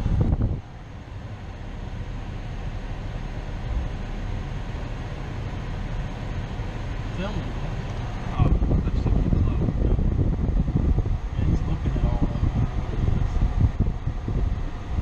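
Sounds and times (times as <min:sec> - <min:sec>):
truck engine low rumble inside cab: 0:00.0 - 0:15.0.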